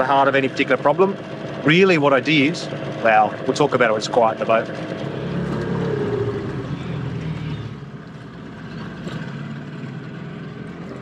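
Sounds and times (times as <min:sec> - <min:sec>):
outboard motor running: 0:00.0 - 0:11.0
wind: 0:00.0 - 0:11.0.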